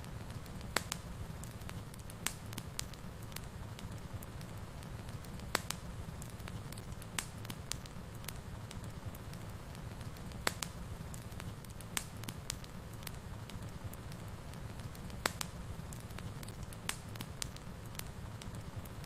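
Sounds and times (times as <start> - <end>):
fire crackles and pops: 0.0 - 19.0
low rumble of flame: 0.0 - 19.0.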